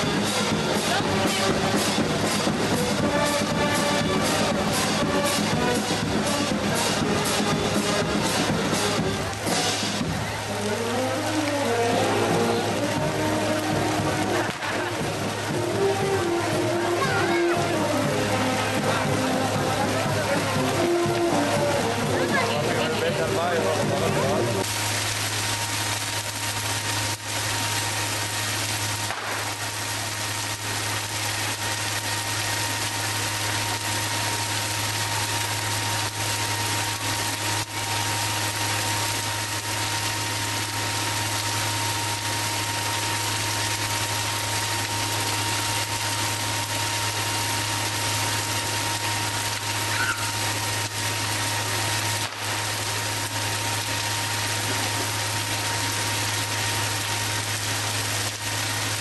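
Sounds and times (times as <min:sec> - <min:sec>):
bonfire rushing: 0:00.0 - 0:59.0
constant low hum: 0:00.0 - 0:59.0.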